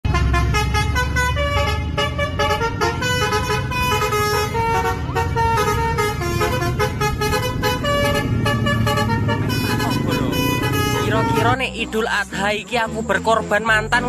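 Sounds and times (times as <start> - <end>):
bus engine rumble: 0.0 - 14.0
multi-tone bus horn melody: 0.0 - 14.0.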